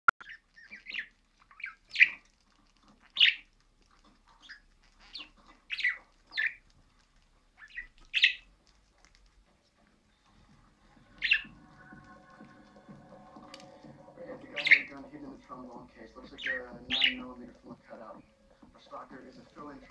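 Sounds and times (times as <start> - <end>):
budgerigar chirping: 0.2 - 6.7, 7.5 - 8.6, 10.4 - 19.9.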